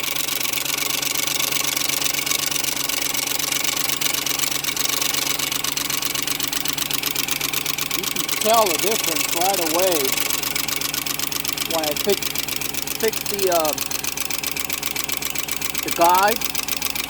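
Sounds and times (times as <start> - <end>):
car engine idling: 0.0 - 17.0
fast steady ticking: 0.0 - 17.0.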